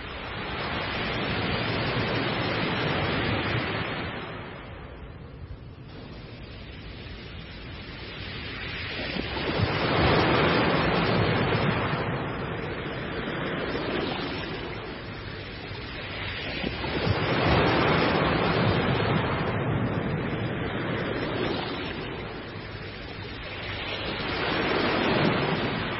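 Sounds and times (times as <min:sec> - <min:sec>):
ocean waves breaking: 0:00.0 - 0:04.6, 0:06.5 - 0:25.9.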